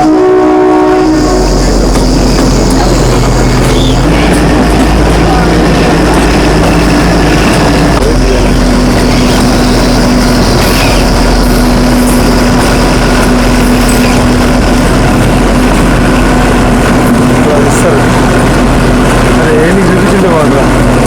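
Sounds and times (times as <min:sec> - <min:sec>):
train rumbling on board: 0:00.0 - 0:21.0.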